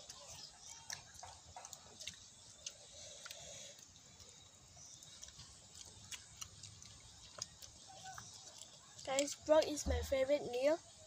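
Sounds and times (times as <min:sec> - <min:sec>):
children chewing food: 0:00.0 - 0:11.0.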